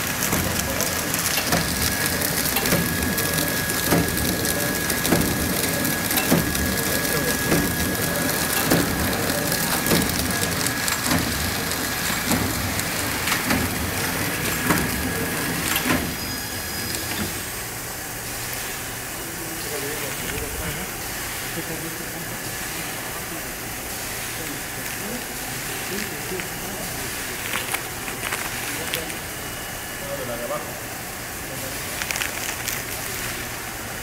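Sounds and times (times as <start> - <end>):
packaging machine hiss and clatter: 0.0 - 34.0.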